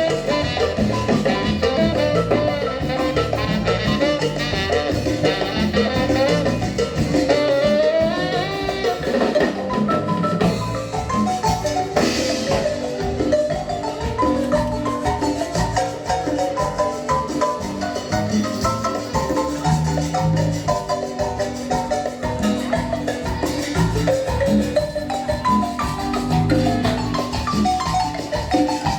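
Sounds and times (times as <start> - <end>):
marimba ensemble playing: 0.0 - 28.9.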